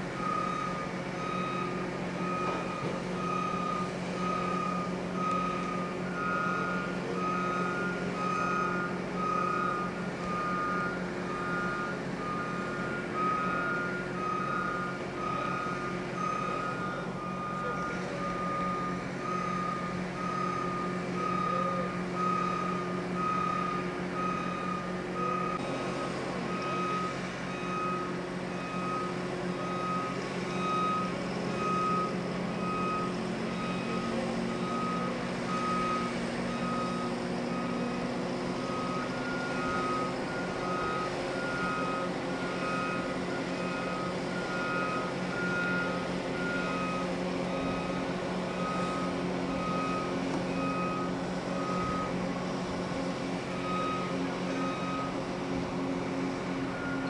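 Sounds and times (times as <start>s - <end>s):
backup alarms beeping: 0.0s - 57.0s
engine drone: 0.0s - 57.0s
higher-pitched backup alarm: 0.0s - 57.0s.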